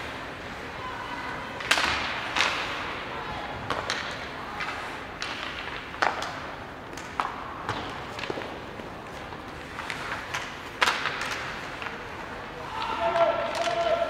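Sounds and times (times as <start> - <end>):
hockey sticks and puck clacking: 0.0 - 14.0.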